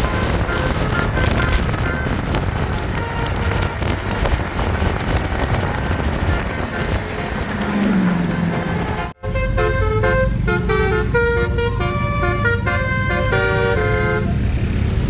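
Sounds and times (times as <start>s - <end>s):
multi-tone bus horn tune: 0.0s - 14.6s
engine running low: 0.0s - 15.0s.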